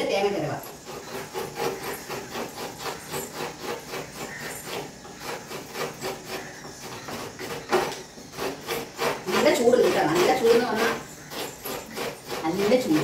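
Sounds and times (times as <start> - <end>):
coconut grater rasping: 0.0 - 13.0.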